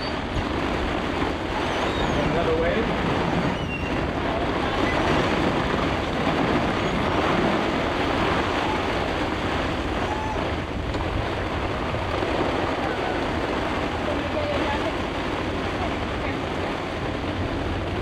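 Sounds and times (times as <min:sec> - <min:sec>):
rain: 0:00.0 - 0:18.0
storm wind: 0:00.0 - 0:18.0
wind buffeting microphone: 0:00.0 - 0:18.0.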